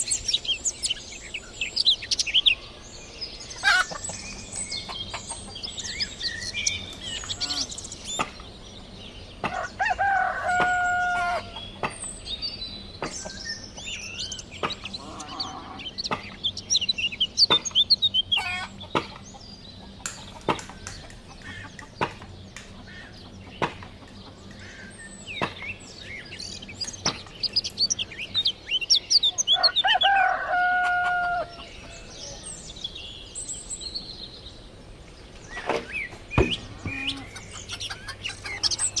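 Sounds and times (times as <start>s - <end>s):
bird chirps: 0.0s - 9.8s, 10.7s - 30.4s, 31.3s - 39.0s.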